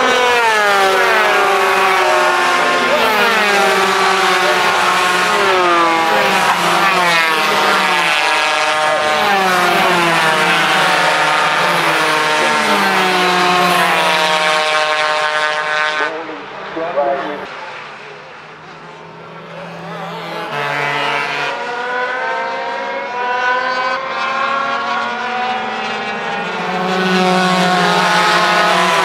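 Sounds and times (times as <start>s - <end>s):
kart engines racing past: 0.0s - 29.0s.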